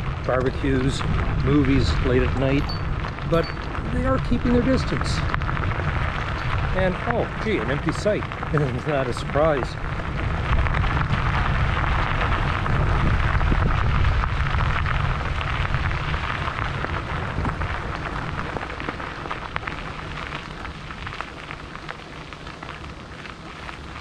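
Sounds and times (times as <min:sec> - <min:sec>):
tyres crackling over gravel: 0:00.0 - 0:24.0
wind buffeting microphone: 0:00.0 - 0:24.0.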